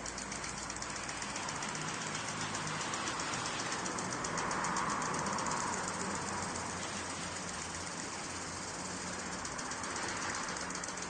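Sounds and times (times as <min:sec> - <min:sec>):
sprinkler rapid ticking: 0:00.0 - 0:11.0
sprinkler spraying water: 0:00.0 - 0:11.0.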